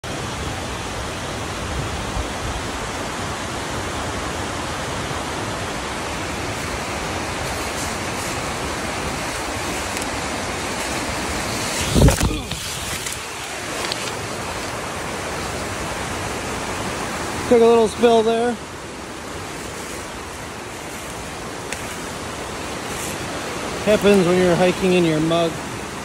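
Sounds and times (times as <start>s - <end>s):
waterfall and creek rushing: 0.0s - 26.0s.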